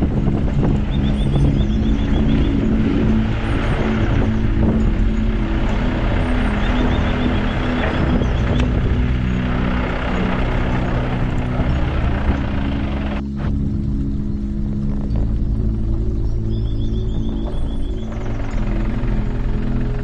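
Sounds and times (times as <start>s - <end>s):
car engine hum: 0.0s - 20.0s
road and tyre noise: 0.0s - 20.0s.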